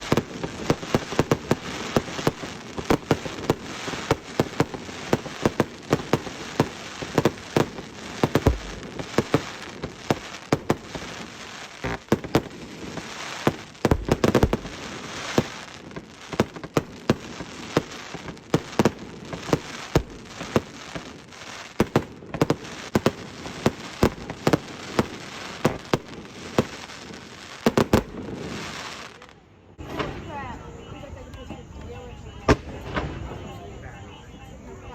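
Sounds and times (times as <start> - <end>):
deep firework booms: 0.0 - 29.0
fireworks crackling and banging: 0.0 - 34.9.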